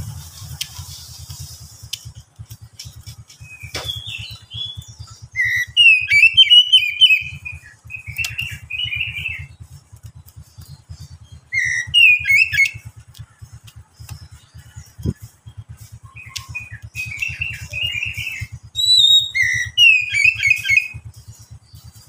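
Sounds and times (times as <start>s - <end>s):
bird singing warbled phrases: 0.0s - 22.0s
low fast even pulsing: 0.0s - 22.0s.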